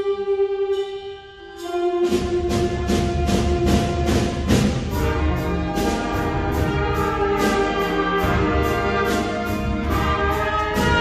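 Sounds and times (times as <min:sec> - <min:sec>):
brass and woodwinds chords: 0:00.0 - 0:11.0
percussion steady beat: 0:01.6 - 0:11.0.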